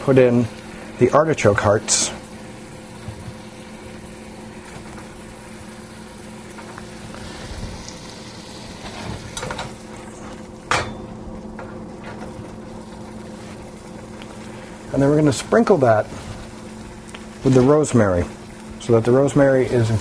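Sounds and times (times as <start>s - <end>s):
chicken sizzling in a pan: 0.0s - 10.7s, 12.3s - 20.0s.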